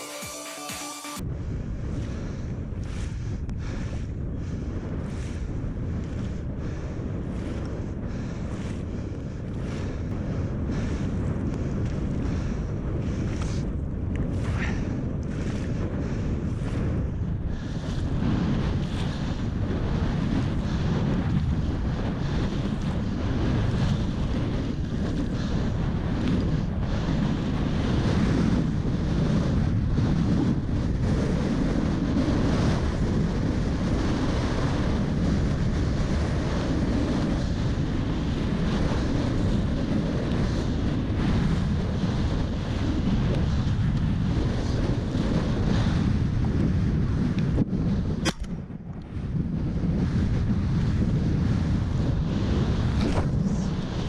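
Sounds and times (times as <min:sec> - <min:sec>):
wind buffeting microphone: 0:01.2 - 0:54.0.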